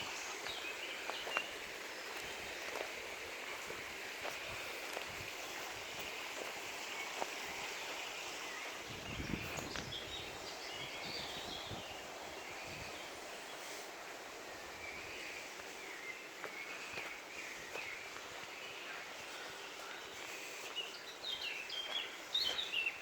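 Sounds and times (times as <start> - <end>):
small birds chirping and singing: 0.0 - 23.0.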